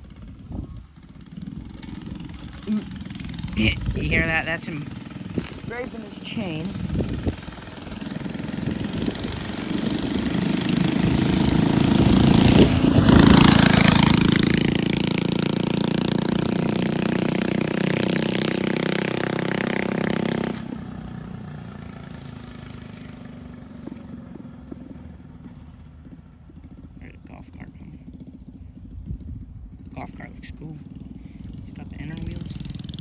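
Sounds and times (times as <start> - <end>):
mini bike engine riding by: 0.0 - 33.0.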